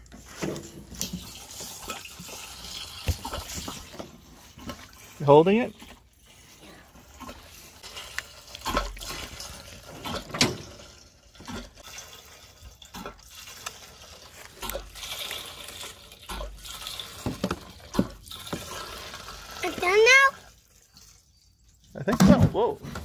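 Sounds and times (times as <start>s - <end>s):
gasoline trickling into fuel tank: 0.0s - 23.0s.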